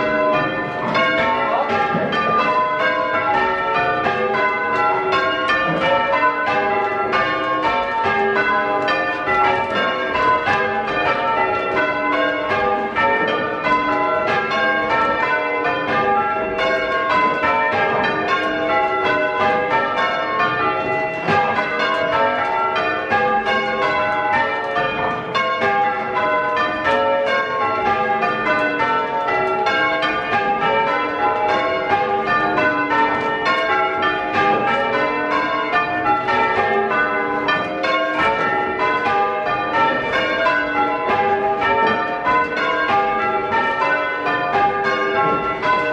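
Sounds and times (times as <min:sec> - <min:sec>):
church bells ringing changes: 0:00.0 - 0:45.9.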